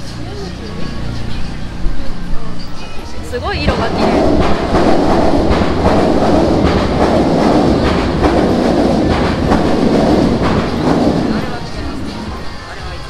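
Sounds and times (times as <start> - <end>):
train wheels rumbling on rails: 0.0 - 13.0
wheels clacking over rail joints: 0.0 - 13.0.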